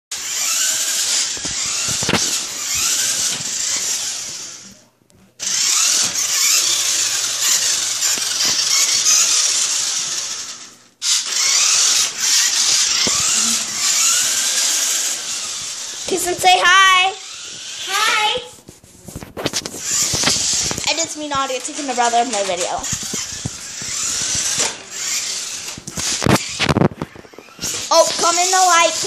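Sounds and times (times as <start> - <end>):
toy truck electric motor whining: 0.1 - 4.8, 5.4 - 18.4, 19.4 - 29.0.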